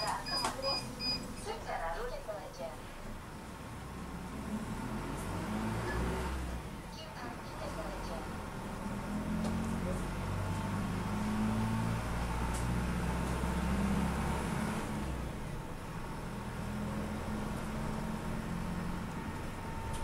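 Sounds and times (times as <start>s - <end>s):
bus engine: 0.0s - 20.0s
road noise: 0.0s - 20.0s.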